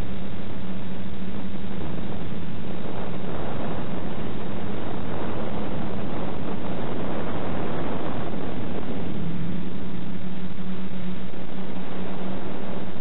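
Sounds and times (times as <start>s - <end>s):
drone motors humming: 0.0s - 13.0s
wind noise: 0.0s - 13.0s.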